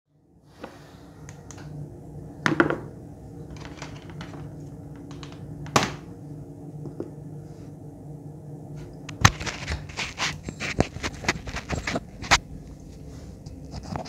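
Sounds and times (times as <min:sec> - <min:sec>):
steady low hum: 0:00.1 - 0:14.0.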